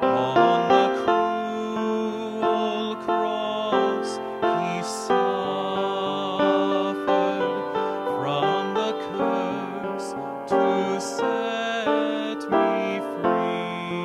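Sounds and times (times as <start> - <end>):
man singing into a microphone: 0.0 - 14.0
upright piano hymn accompaniment: 0.0 - 14.0.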